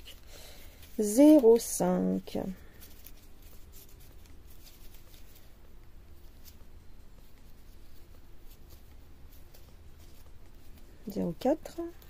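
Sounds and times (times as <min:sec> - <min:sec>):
low room hum: 0:00.0 - 0:12.0
thread rustling and clicking: 0:00.0 - 0:12.0.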